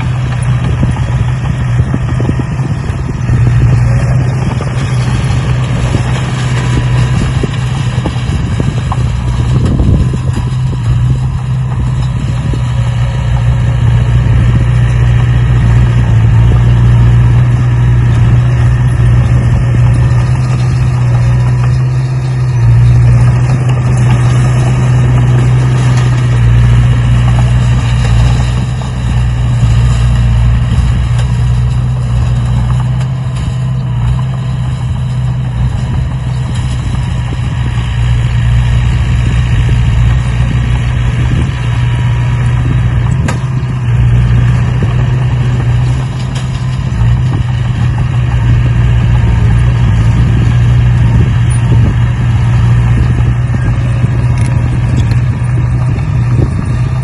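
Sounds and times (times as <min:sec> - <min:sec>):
engine running with low hum: 0:00.0 - 0:57.0.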